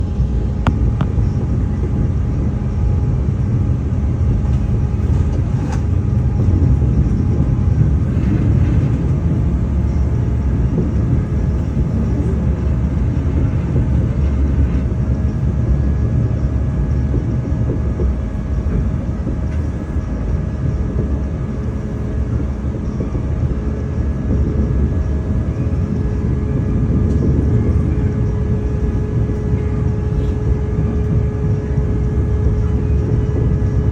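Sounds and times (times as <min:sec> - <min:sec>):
faint steady tones: 0:00.0 - 0:33.9
moving vehicle rumble: 0:00.0 - 0:33.9.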